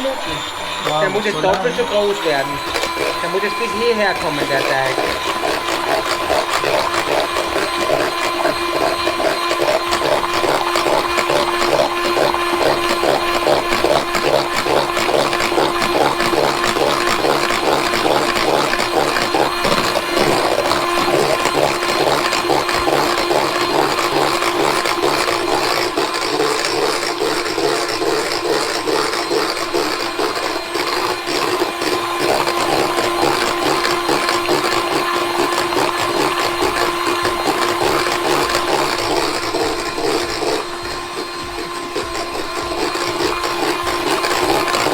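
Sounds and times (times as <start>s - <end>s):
electric mixer whisking: 0.0s - 44.9s.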